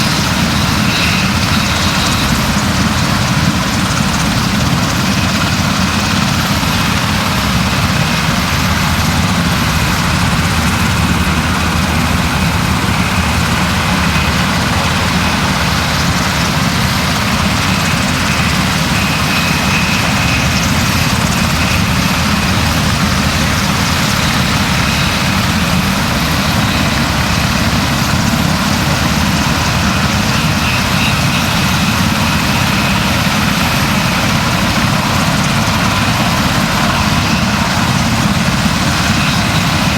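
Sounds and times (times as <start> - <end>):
steady engine drone: 0.0 - 39.9.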